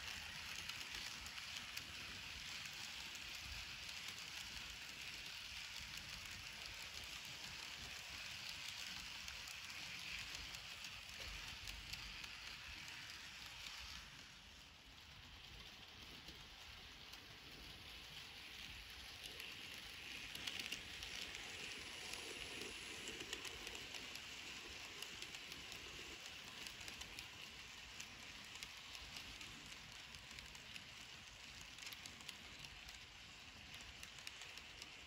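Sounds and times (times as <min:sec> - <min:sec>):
model train wheels rattling: 0:00.0 - 0:35.0.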